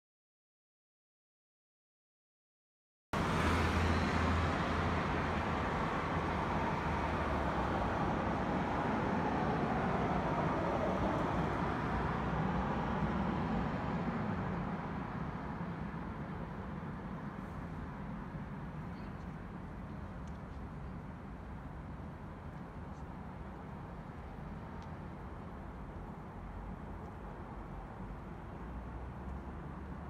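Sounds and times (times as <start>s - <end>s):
city traffic noise: 3.2s - 30.0s.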